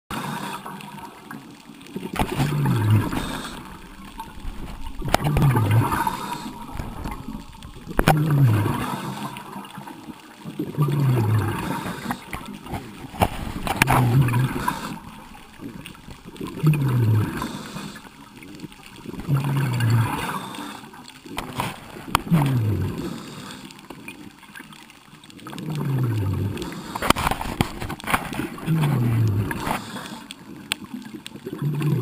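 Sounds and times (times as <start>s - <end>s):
exhaled bubbles gurgling: 0.1s - 32.0s.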